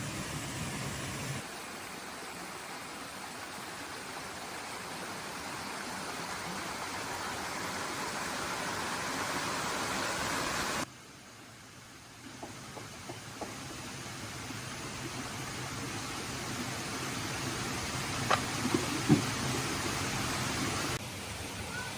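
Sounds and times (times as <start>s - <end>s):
rushing water hiss: 0.0s - 21.9s.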